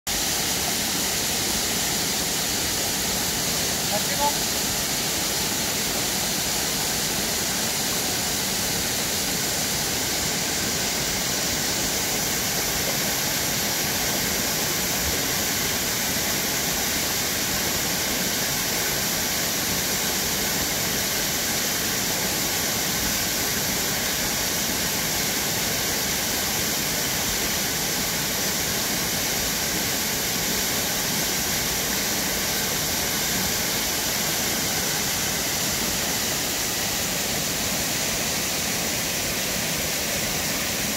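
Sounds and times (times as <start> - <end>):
waterfall pouring into a pool: 0.1 - 40.9.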